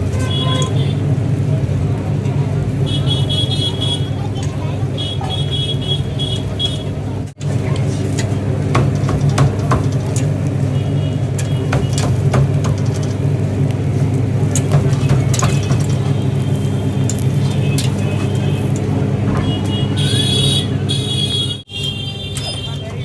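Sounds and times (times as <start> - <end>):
engine drone: 0.0 - 23.0.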